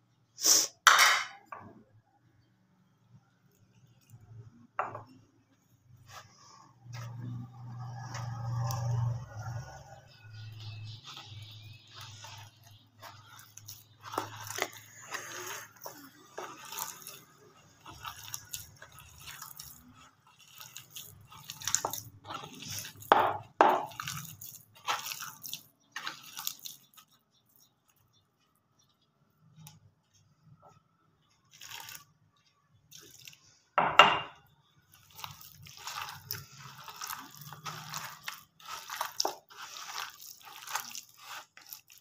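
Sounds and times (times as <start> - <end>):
hand mixing wet vegetables: 2.4 - 33.8, 34.4 - 42.0.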